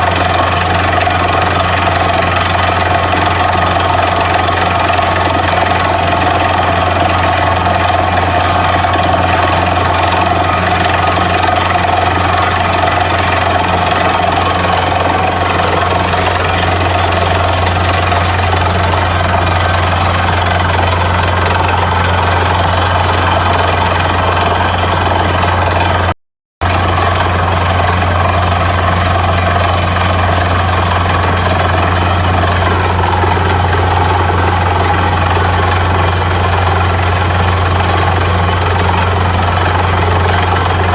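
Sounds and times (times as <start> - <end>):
drilling rig engine running: 0.0 - 40.9.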